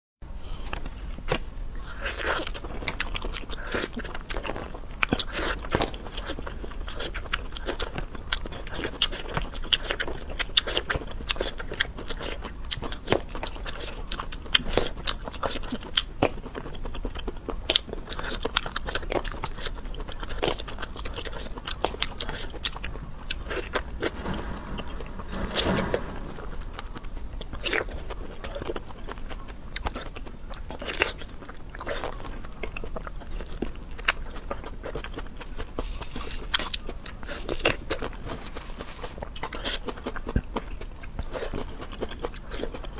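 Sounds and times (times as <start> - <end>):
crunching and chewing food: 0.6 - 23.8, 28.4 - 42.9.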